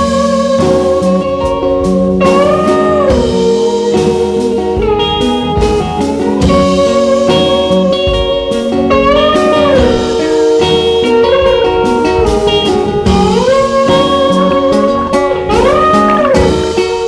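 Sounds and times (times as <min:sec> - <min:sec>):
blues slide guitar music: 0:00.0 - 0:17.0.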